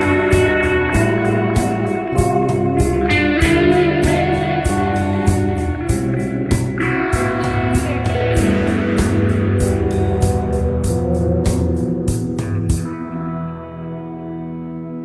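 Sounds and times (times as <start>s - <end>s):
drum beat: 0.0s - 12.9s
bass: 0.0s - 15.0s
electric guitar sustained notes: 0.0s - 15.0s.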